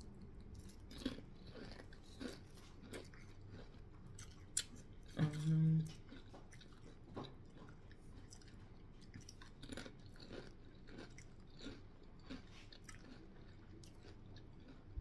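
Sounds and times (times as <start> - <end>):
faint chewing of crunchy chips: 0.0 - 15.0.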